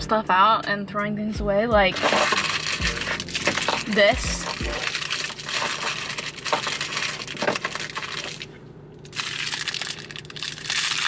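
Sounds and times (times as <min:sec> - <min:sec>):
plastic wrappers crinkling: 0:01.9 - 0:11.0.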